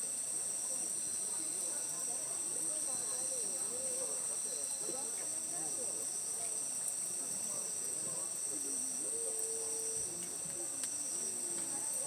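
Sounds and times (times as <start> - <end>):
faint voices talking: 0.0 - 12.0
night insects trilling: 0.0 - 12.0.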